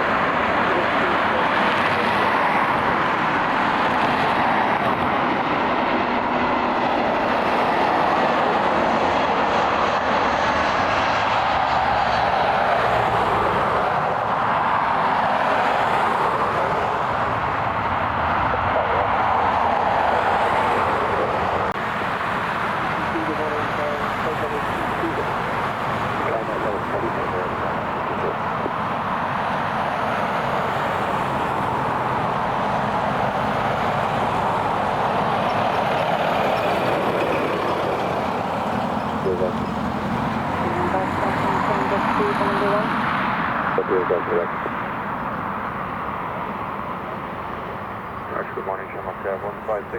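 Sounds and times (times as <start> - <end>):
jet engines rushing: 0.0 - 49.9.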